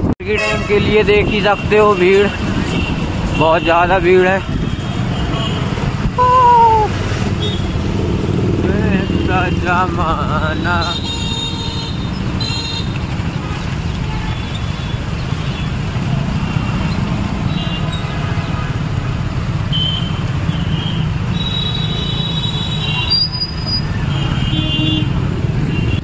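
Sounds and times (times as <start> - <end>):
motorcycle engine and road rumble: 0.0 - 26.0.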